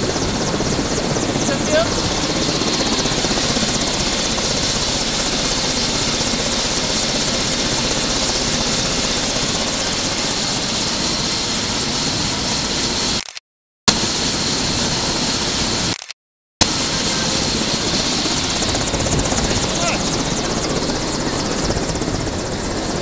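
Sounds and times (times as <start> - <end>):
helicopter turbine whine: 0.0 - 13.2, 13.9 - 16.0, 16.6 - 23.0.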